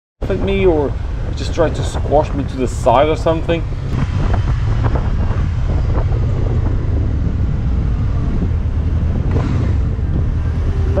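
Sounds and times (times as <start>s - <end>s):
motorcycle engine rumble: 0.2s - 11.0s
traffic: 0.2s - 11.0s
wind buffeting microphone: 0.2s - 11.0s.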